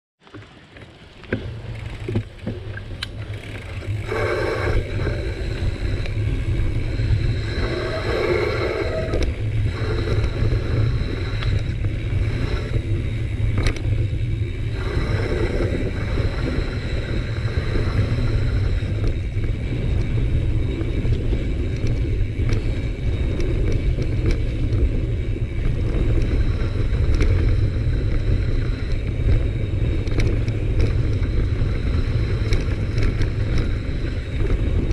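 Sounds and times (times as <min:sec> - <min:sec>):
bike clicks and rattles: 0:00.2 - 0:34.9
bike tyre noise on dirt: 0:00.2 - 0:34.9
wind rumbling on microphone: 0:00.3 - 0:34.9.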